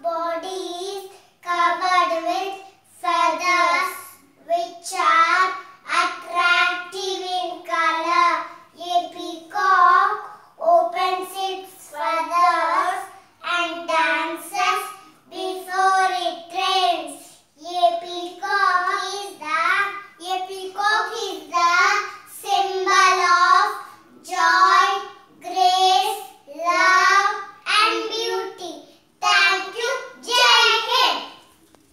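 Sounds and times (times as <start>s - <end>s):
children singing unaccompanied: 4.7s - 17.0s, 17.7s - 31.4s.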